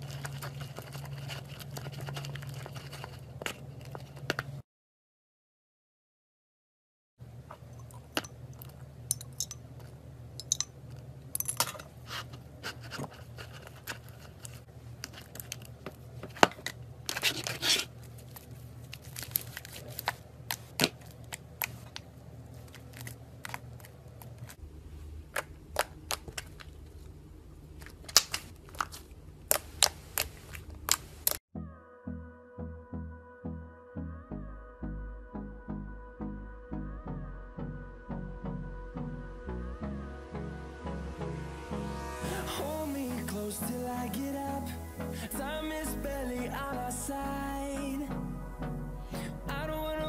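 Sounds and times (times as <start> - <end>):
steady low hum: 7.2 - 31.4, 32.1 - 50.0.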